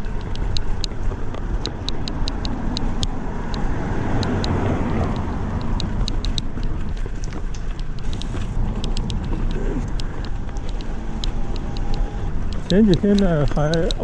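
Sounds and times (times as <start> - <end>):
bicycle riding rumble and hiss: 0.0 - 14.0
bicycle ticks and rattles: 0.0 - 14.0
passing traffic: 0.0 - 14.0.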